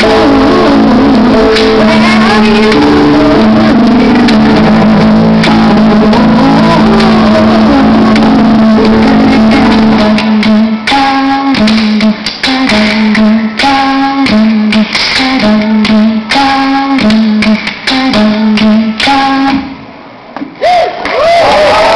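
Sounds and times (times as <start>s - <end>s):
plucked guitar: 0.0s - 18.9s.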